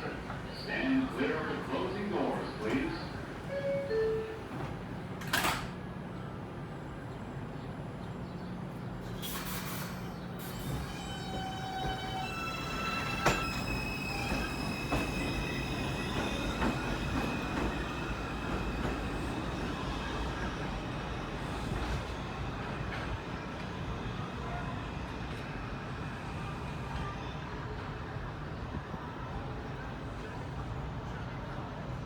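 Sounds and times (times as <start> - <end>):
subway train doors sliding shut: 0.0 - 7.1, 8.6 - 28.1.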